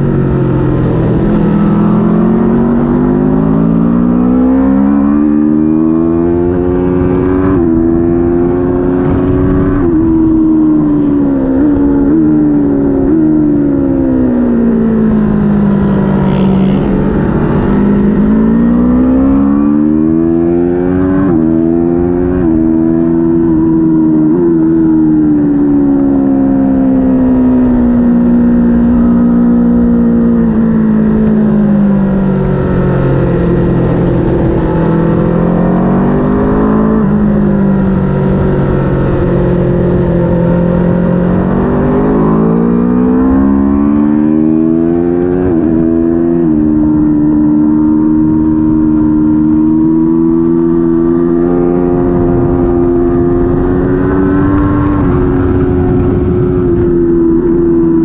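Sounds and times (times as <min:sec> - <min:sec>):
racing engine revving: 0:00.0 - 0:58.0.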